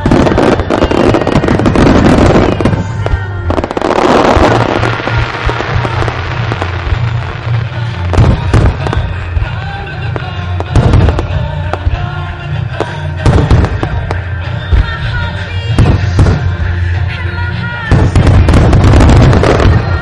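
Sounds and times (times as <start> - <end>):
firework shells booming and crackling: 0.0 - 17.0, 17.9 - 20.0
music: 0.0 - 20.0.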